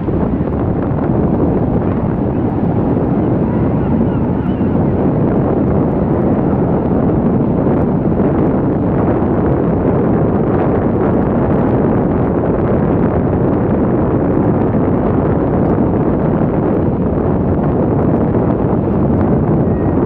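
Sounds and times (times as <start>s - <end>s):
loud jet rumble: 0.0s - 20.0s
wind on microphone: 0.0s - 20.0s.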